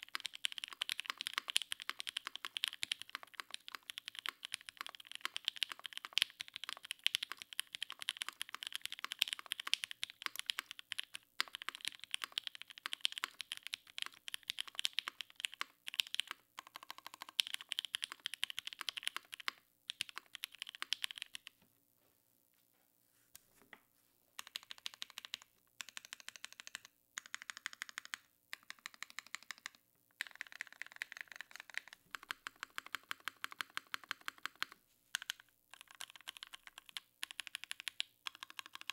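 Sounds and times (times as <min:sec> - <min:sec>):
mechanical keyboard typing: 0:00.0 - 0:21.6, 0:24.4 - 0:38.9.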